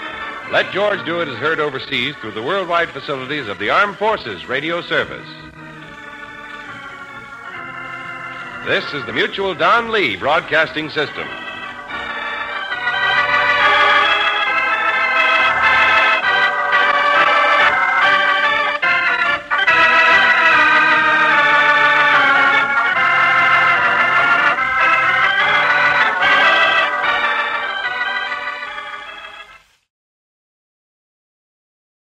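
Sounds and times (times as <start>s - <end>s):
organ playing held chords: 0.0s - 29.8s.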